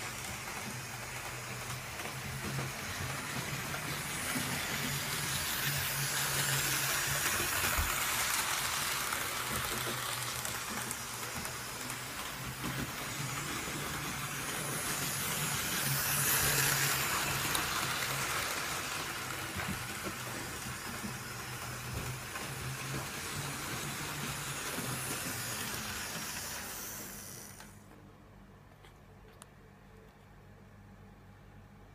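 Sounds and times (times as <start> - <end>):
model train motor and wheels hiss: 0.0 - 27.8.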